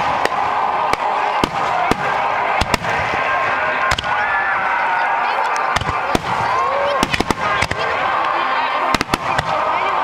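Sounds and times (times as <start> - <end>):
fireworks bursting: 0.0 - 4.8, 5.4 - 10.0
murmur of crowd voices: 0.0 - 10.0.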